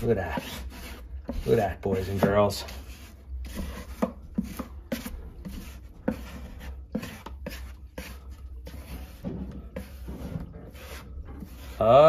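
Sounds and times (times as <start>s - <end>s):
metal knife scraping drywall: 0.0s - 12.0s.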